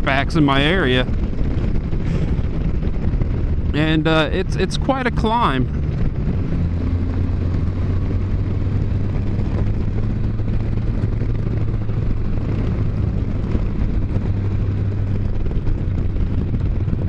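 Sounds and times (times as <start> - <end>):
engine droning: 0.0 - 17.0
wind rushing over microphone: 0.0 - 17.0.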